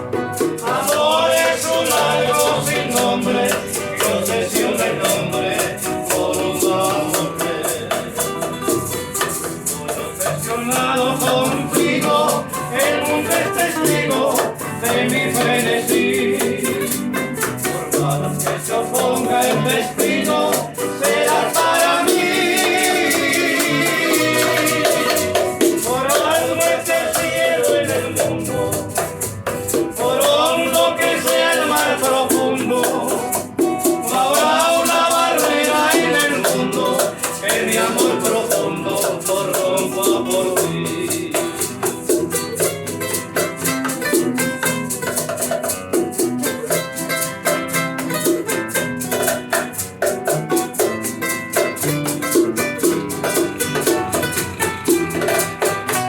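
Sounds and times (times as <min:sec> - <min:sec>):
guitars playing bolero: 0:00.0 - 0:56.0
maracas shaking: 0:00.0 - 0:56.0.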